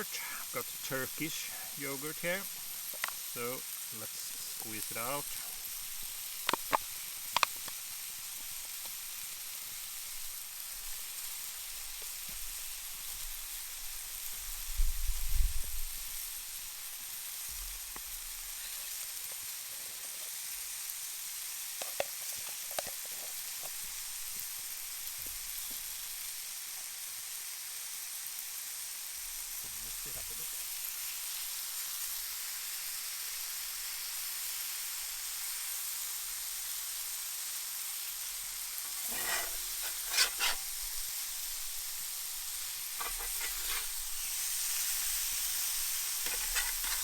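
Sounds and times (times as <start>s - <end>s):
food sizzling in a pan: 0.0s - 47.0s.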